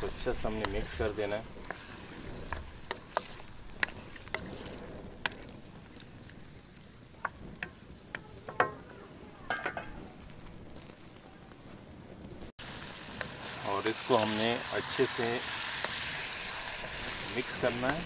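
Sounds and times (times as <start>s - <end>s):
chicken sizzling in a pan: 0.0s - 10.2s, 12.6s - 18.0s.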